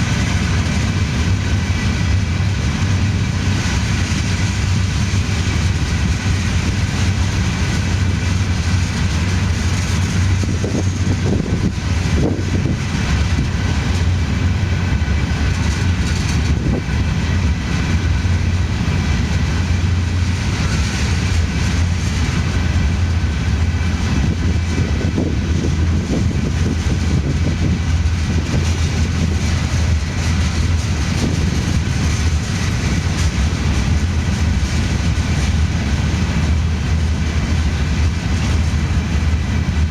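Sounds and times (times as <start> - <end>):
knocks of freight cars: 0.0 - 39.9
train wheels rumbling on rail: 0.0 - 39.9.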